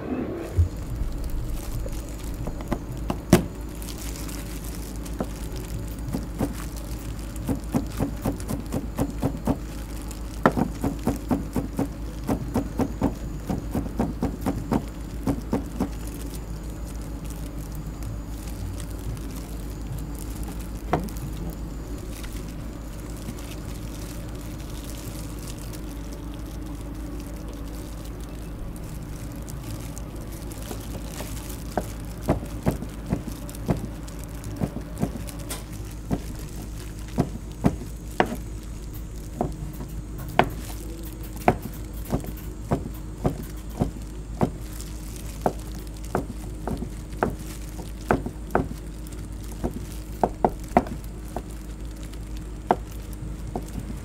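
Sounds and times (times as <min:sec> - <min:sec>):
low kitchen hum: 0:00.0 - 0:54.0.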